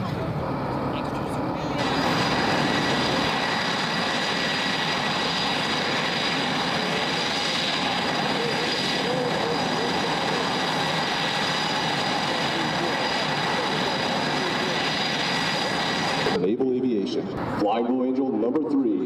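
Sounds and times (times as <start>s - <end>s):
high steady whine: 0.0s - 16.6s
jet engines running: 0.0s - 19.0s.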